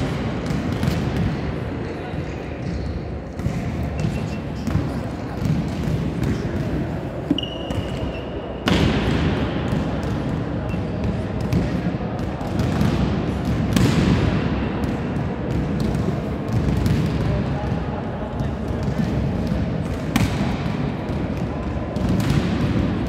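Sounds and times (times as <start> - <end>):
volleyballs thudding on court: 0.0 - 1.6, 2.6 - 17.8, 18.4 - 23.0
sports hall noise: 0.0 - 23.0.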